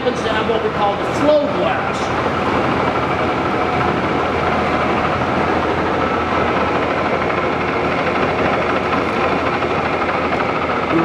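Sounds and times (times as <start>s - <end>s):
lathe whirring: 0.0s - 11.0s.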